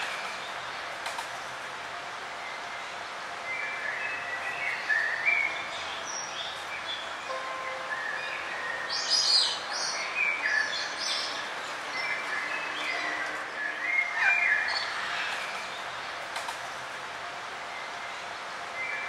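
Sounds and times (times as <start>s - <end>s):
steady background hiss: 0.0s - 19.0s
wild birds chirping: 0.0s - 19.0s.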